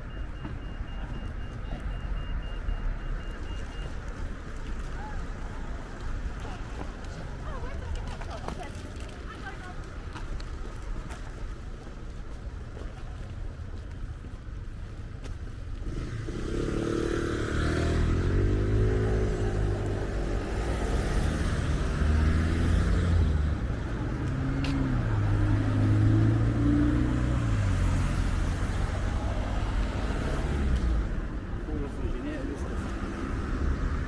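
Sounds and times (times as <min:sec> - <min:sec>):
traffic noise: 0:00.0 - 0:34.0.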